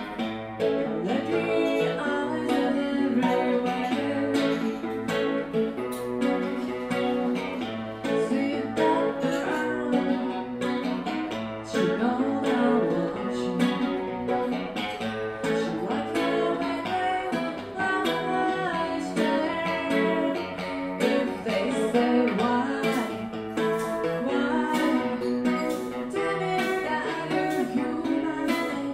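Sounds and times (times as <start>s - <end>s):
guitar playing: 0.0s - 28.9s.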